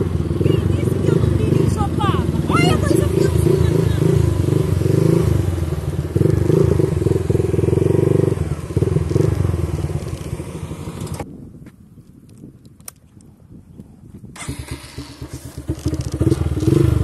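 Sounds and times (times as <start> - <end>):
vehicle engine pulsing: 0.0 - 11.2, 14.4 - 17.0.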